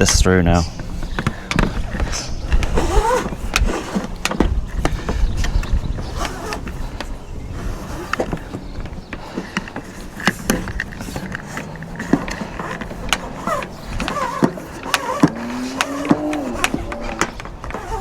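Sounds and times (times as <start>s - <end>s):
cable and fittings clicking: 0.0s - 18.0s.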